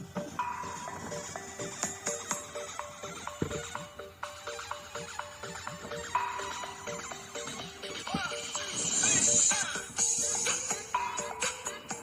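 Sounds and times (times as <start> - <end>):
swooping sliding-pitch sounds: 0.0 - 11.6
electronic music: 0.0 - 12.0.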